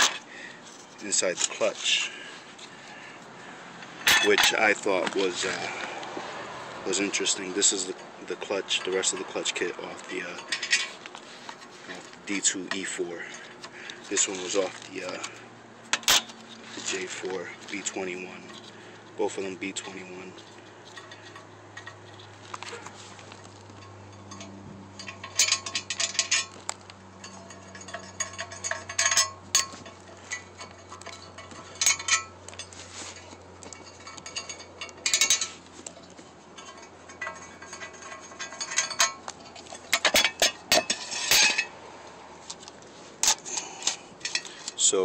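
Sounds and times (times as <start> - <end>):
metal clutch parts clinking: 0.0 - 3.2, 3.8 - 6.0, 6.9 - 41.8, 42.4 - 45.0
steady low hum: 0.0 - 44.8.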